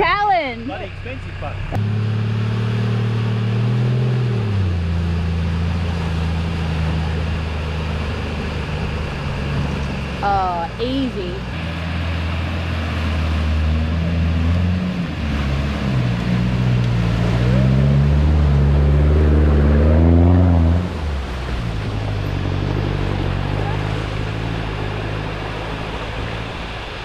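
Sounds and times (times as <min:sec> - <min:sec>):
off-road vehicle engine: 0:00.0 - 0:27.0
rushing river water: 0:01.8 - 0:27.0.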